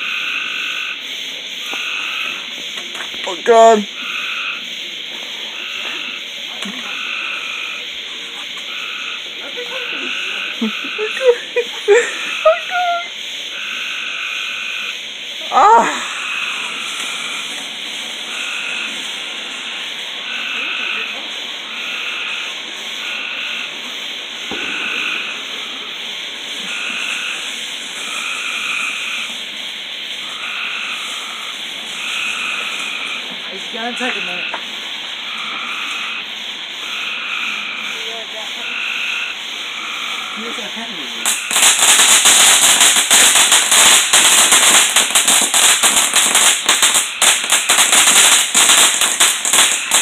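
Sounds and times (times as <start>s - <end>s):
firework fountain hissing: 0.0s - 50.0s.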